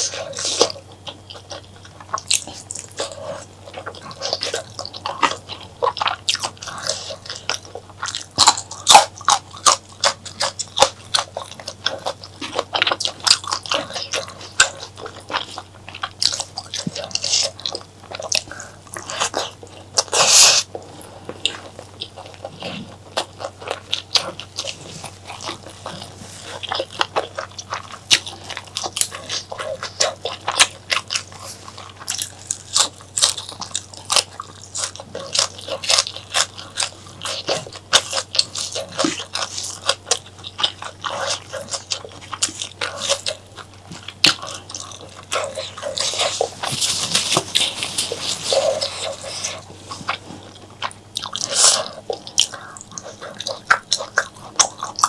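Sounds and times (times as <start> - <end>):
close chewing and biting: 0.0 - 55.0.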